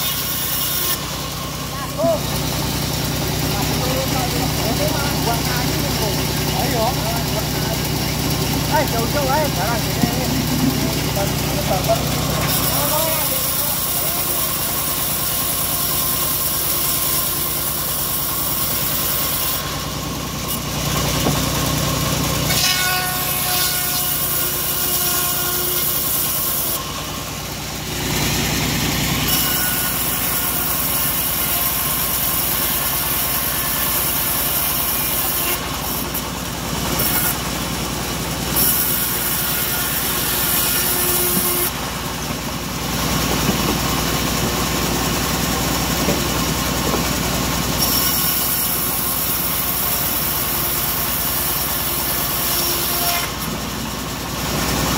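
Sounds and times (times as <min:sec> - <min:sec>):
sawmill machine drone: 0:00.0 - 0:54.9.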